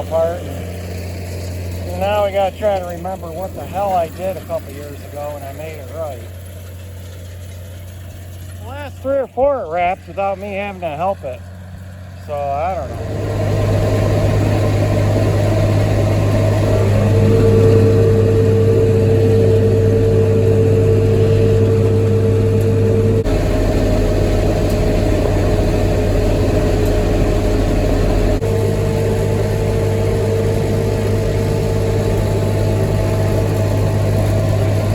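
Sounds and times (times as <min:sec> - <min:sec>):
hay baler machinery turning: 0:00.0 - 0:34.9
tractor engine running: 0:00.0 - 0:34.9.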